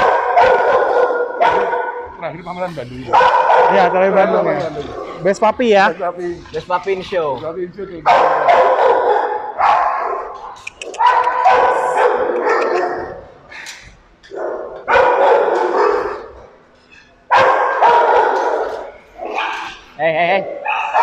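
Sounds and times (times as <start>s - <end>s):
dogs barking: 0.0s - 5.9s, 8.0s - 21.0s.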